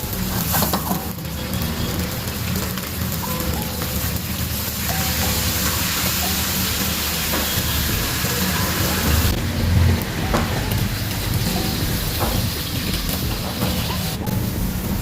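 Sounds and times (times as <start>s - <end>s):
cooking hiss: 0.0s - 15.0s.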